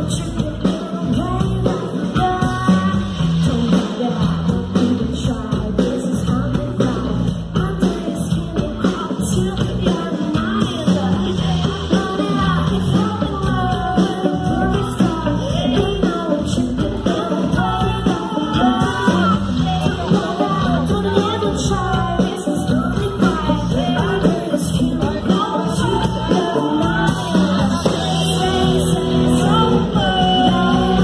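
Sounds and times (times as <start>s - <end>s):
rock band playing live: 0.0s - 31.0s
woman singing lead: 0.0s - 31.0s.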